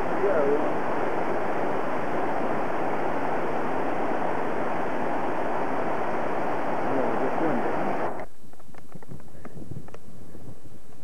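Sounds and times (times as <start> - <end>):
stream running over stones: 0.0 - 10.2.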